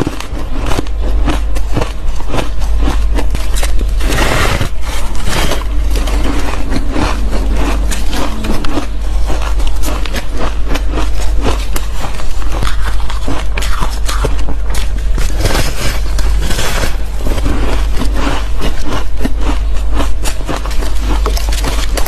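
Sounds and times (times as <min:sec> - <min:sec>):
crunching ice: 0:00.0 - 0:22.0.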